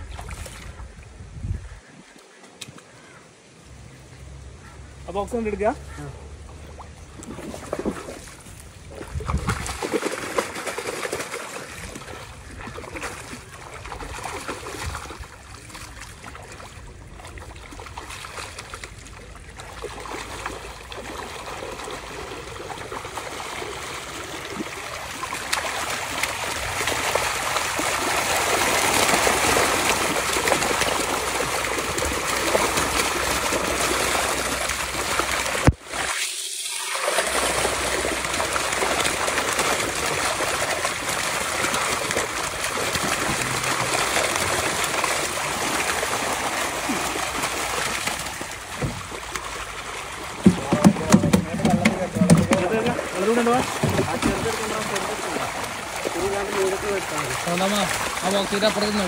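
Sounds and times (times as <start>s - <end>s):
fish thrashing in water: 6.5s - 59.0s.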